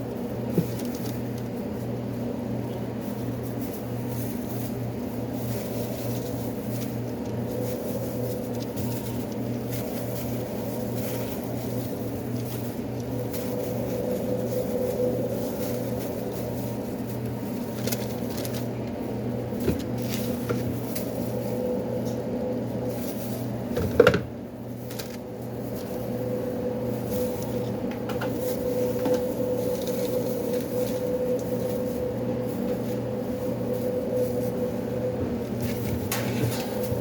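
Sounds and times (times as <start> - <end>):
kitchen equipment humming: 0.0 - 37.0.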